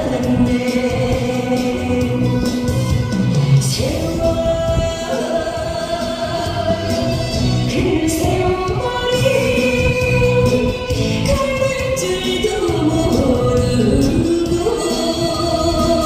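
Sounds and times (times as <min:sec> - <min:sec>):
musical accompaniment: 0:00.0 - 0:16.0
woman singing into microphone: 0:00.0 - 0:16.0.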